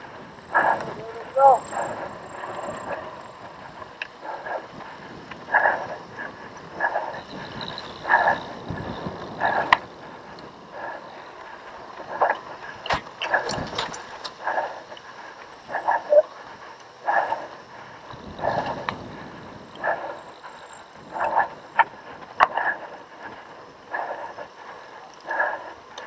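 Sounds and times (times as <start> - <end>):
person breathing hard: 0.0 - 26.0.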